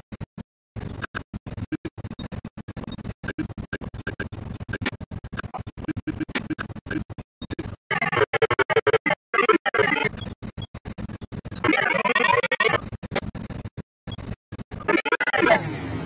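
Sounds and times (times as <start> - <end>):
stuttering audio fragments: 0.8 - 16.0.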